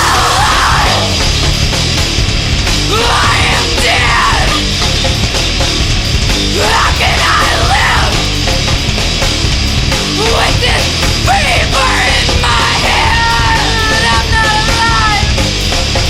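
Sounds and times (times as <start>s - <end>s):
nu-metal band playing: 0.0s - 16.0s.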